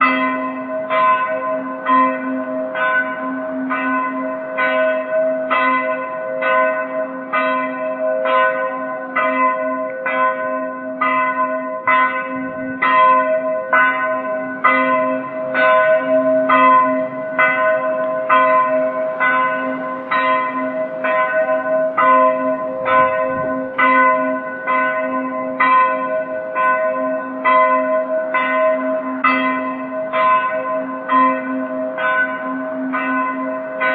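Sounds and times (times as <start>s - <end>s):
church bell ringing: 0.0s - 33.9s.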